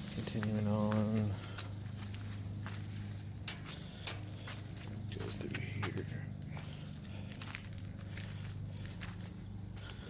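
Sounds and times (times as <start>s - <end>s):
footsteps: 0.0s - 10.0s
steady low hum: 0.0s - 10.0s.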